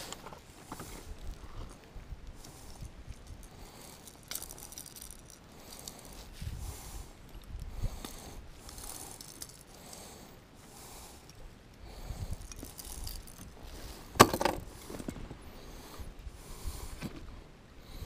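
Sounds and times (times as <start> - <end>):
fishing reel clicks and rustles: 0.0 - 15.1.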